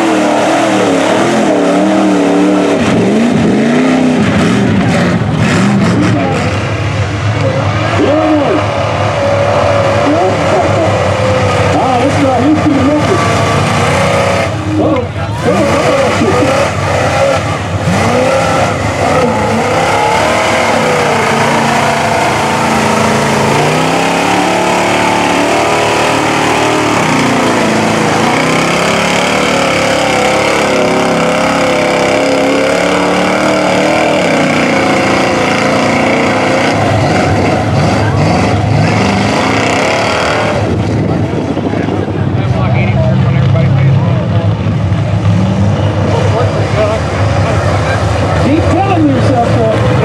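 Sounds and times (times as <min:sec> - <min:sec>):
pickup engines revving: 0:00.0 - 0:50.0
tires churning through mud: 0:00.0 - 0:50.0.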